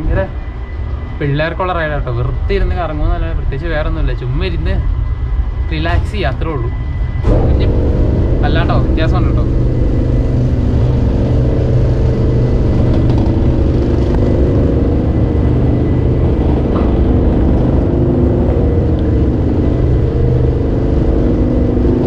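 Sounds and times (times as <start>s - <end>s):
ride machinery rumble and hum: 0.0s - 22.0s.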